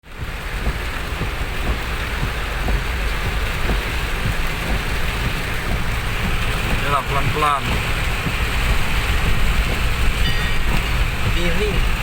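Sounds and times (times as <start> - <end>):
heavy rain pouring: 0.0 - 12.0
low rumble: 0.1 - 12.0.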